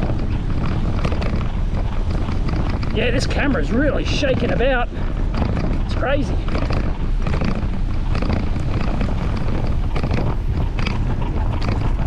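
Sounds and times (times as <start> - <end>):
camera rattling on its mount: 0.0 - 12.0
wind buffeting microphone: 0.0 - 12.0.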